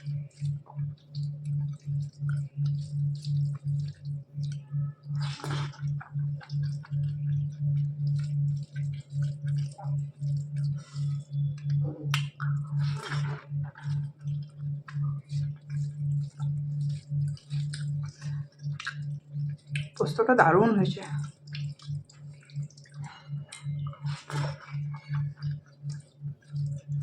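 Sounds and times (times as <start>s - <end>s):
wet chewing and lip smacks: 0.0s - 20.2s, 21.0s - 27.0s
low pulsing hum: 0.0s - 27.0s
squishy clicks of hand-mixed rice: 0.0s - 27.0s.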